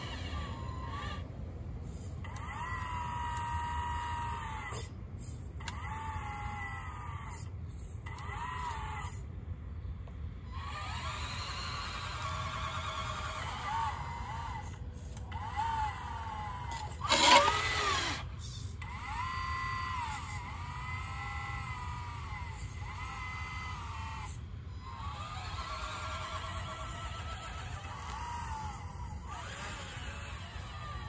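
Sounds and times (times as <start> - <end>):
electric motors whining: 0.0 - 31.0.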